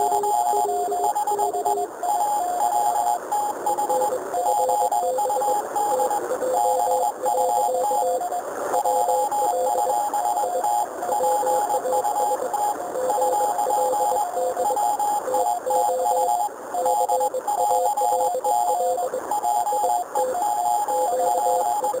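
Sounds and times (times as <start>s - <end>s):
morse code beeps: 0.0s - 22.0s
radio band noise hiss: 0.0s - 22.0s.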